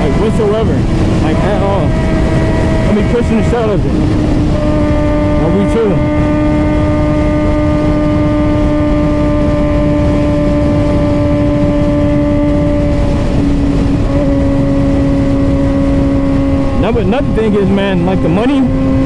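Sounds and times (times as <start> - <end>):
motorcycle engine humming: 0.0 - 19.0
wind rushing over microphone: 0.0 - 19.0.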